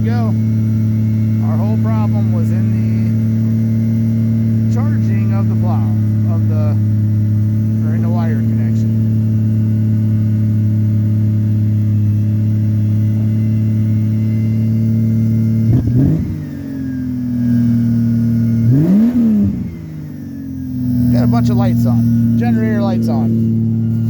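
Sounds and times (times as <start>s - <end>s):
car engine running and revving: 0.0s - 24.0s.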